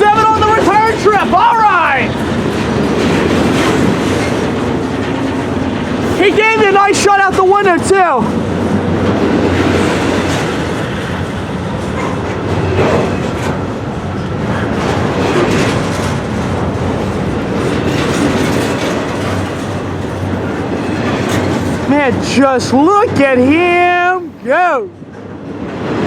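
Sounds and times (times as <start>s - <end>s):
wheels clacking over rails: 0.0s - 24.4s
freight train rolling past: 0.0s - 26.0s.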